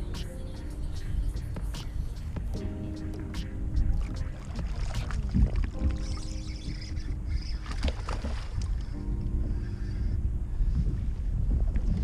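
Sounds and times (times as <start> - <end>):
background music with held tones: 0.0 - 11.4
wind rumble on microphone: 0.0 - 12.0.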